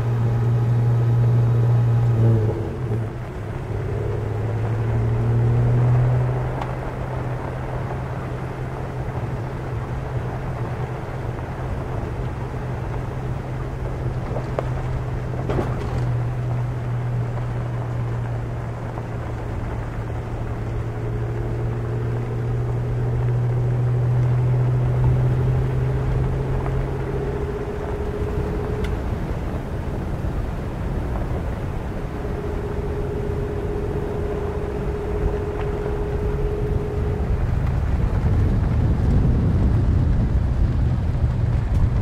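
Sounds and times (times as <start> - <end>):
tyres on gravel road: 0.0 - 42.0
vehicle engine hum: 0.0 - 42.0.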